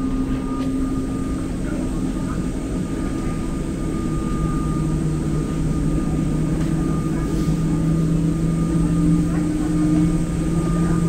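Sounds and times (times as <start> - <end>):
aircraft cabin low hum: 0.0 - 11.0
faint high whine: 0.0 - 11.0.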